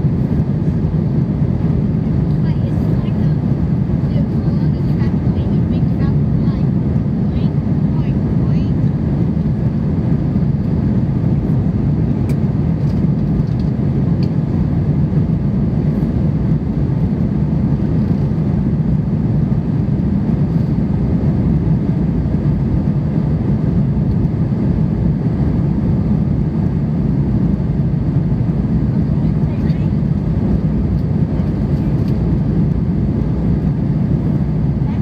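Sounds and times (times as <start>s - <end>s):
jet engines rumbling in cabin: 0.0s - 35.0s.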